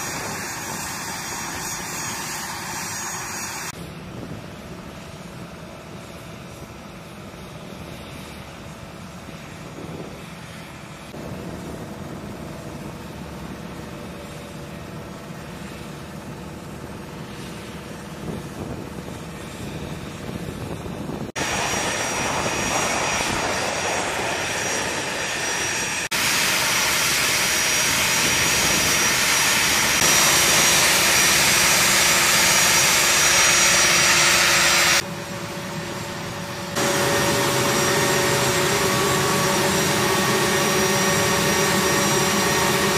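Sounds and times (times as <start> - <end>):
jet engine with high whine: 0.0 - 42.9.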